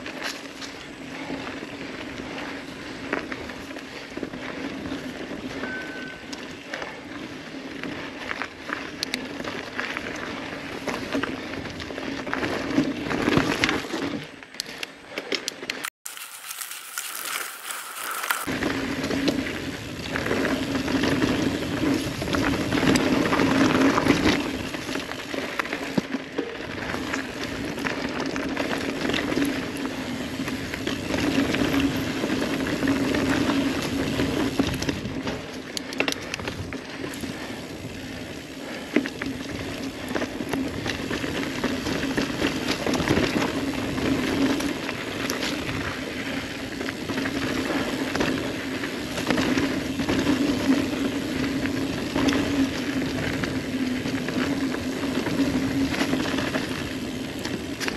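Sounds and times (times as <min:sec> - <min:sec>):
bike chain and frame clattering: 0:00.0 - 0:07.2, 0:07.9 - 0:57.9
bike tyres rolling on dirt trail: 0:00.0 - 0:57.9.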